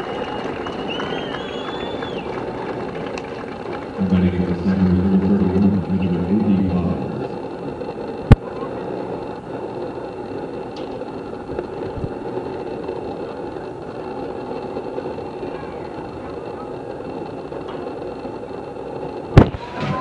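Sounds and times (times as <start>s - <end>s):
faint voices: 0.0s - 20.0s
low hum: 0.0s - 20.0s.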